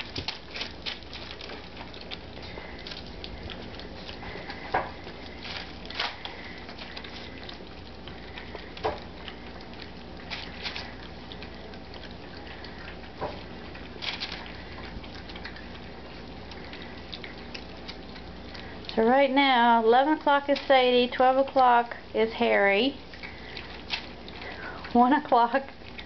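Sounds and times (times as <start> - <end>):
puppies eating wet smacking: 0.0 - 26.0.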